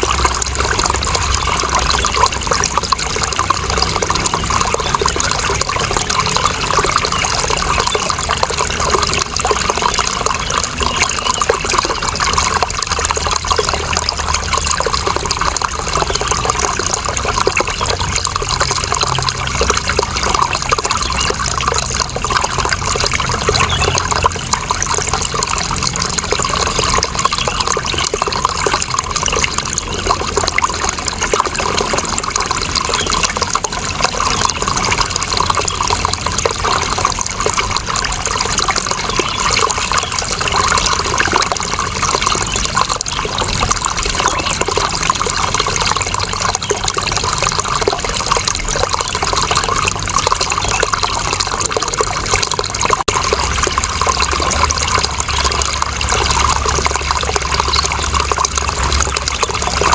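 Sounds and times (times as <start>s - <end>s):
water splashing and trickling: 0.0s - 59.9s.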